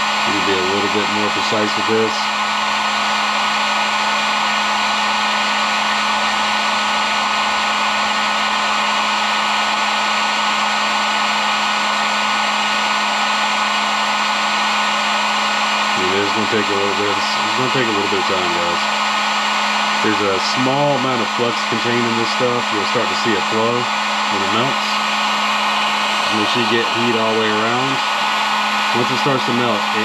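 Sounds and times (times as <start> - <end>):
heat gun blowing air: 0.0 - 30.0.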